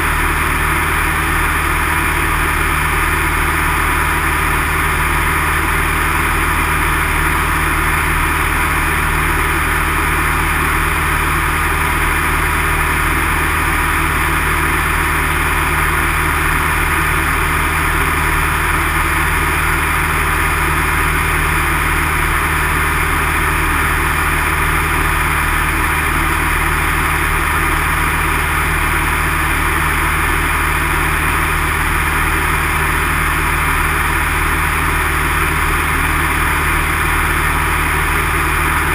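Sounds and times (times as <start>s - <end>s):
light aircraft engine drone: 0.0s - 38.9s.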